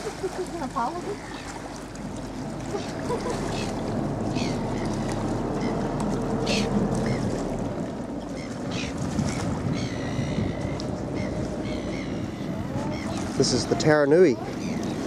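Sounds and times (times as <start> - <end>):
motorboat engine humming: 0.0 - 15.0
water washing: 0.0 - 15.0
wind: 0.0 - 15.0.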